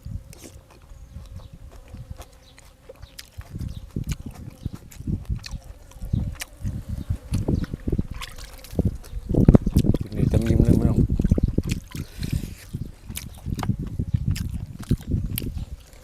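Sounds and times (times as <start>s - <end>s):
chewing and smacking: 0.0s - 16.0s.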